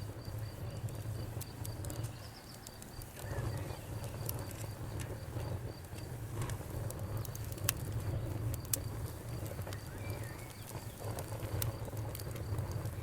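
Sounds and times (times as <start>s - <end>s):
campfire low rumble: 0.0s - 13.0s
fire crackles and pops: 0.0s - 13.0s.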